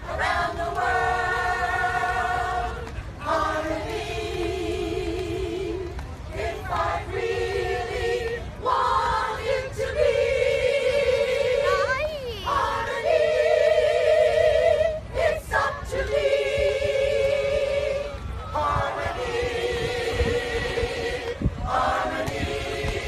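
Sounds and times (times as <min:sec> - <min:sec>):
mixed choir singing a cappella: 0:00.0 - 0:23.0.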